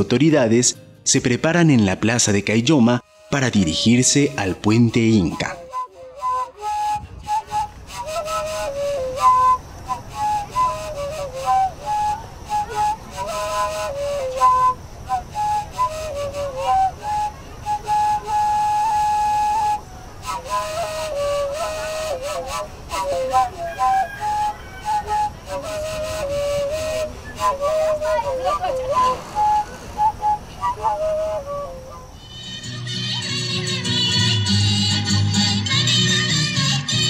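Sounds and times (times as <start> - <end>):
wooden flute melody: 3.0 - 37.0.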